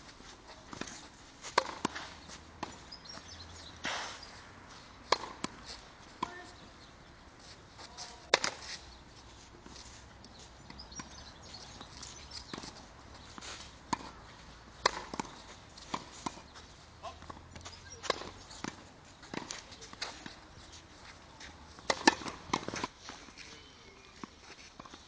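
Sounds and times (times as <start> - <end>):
tennis balls bouncing on clay: 0.1 - 7.2, 7.8 - 25.0
tennis balls struck by racket: 0.4 - 7.1, 7.8 - 8.9, 9.6 - 23.3.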